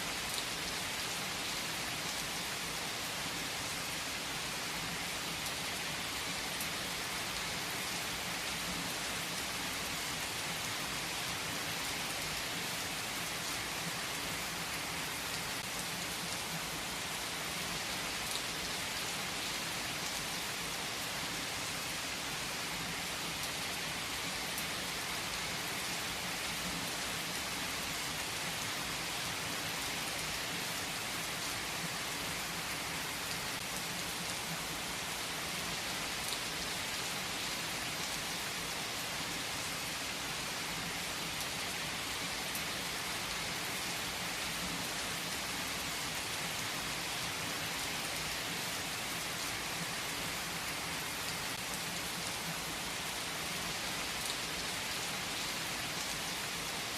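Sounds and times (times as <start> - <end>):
rain falling on a surface: 0.0 - 56.9.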